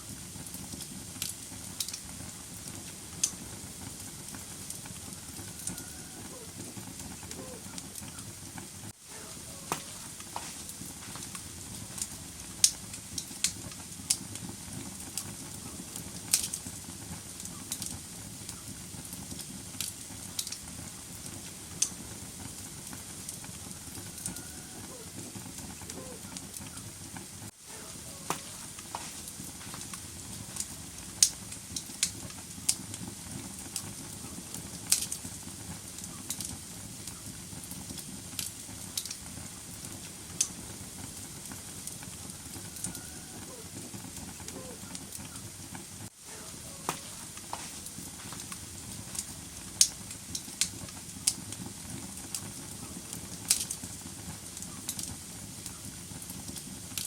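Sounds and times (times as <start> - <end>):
logs crackling and popping: 0.0 - 57.0
low rush of flames: 0.0 - 57.0.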